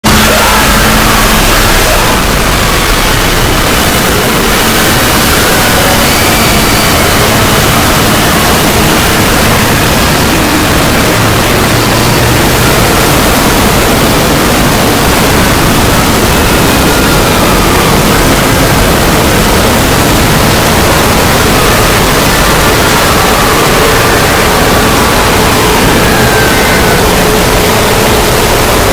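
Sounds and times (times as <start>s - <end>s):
distorted noisy roar: 0.0s - 28.9s.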